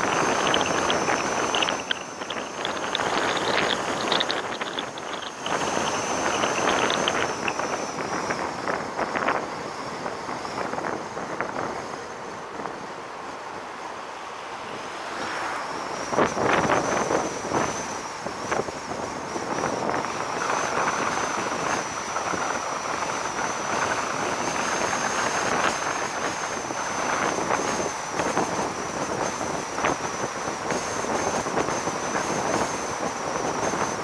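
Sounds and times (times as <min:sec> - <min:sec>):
wind rushing over microphone: 0:00.0 - 0:13.0, 0:14.8 - 0:34.0
thin high whine: 0:00.0 - 0:34.0.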